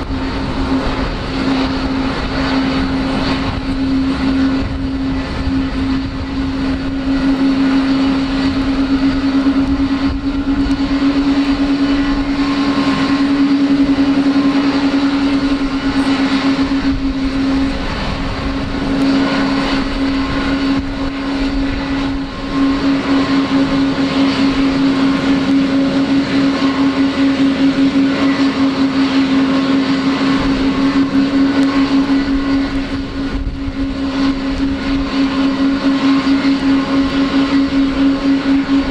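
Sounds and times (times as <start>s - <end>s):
jet engines idling drone: 0.0s - 38.9s.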